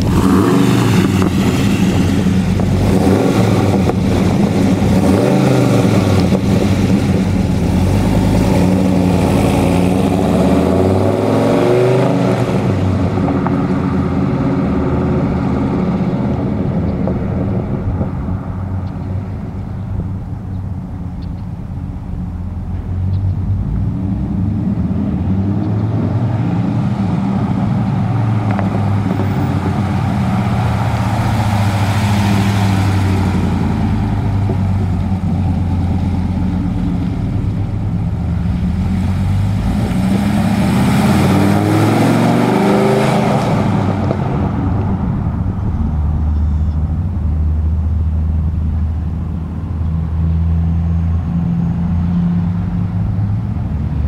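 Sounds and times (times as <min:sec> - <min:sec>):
truck engine revving: 0:00.0 - 0:18.6, 0:21.7 - 0:54.0.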